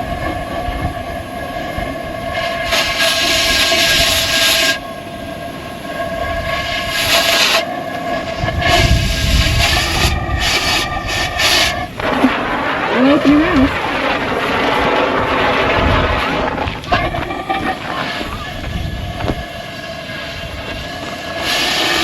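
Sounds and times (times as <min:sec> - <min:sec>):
steady machine hum: 0:00.0 - 0:22.0
cutting torch hissing on steel: 0:01.0 - 0:22.0.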